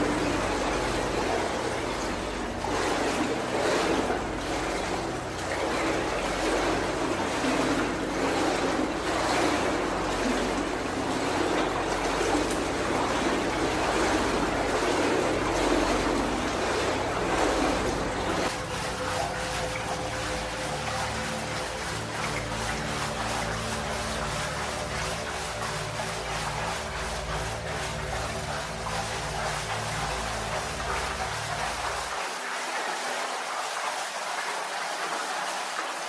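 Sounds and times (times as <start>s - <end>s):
footsteps sloshing through water: 0.0s - 36.0s.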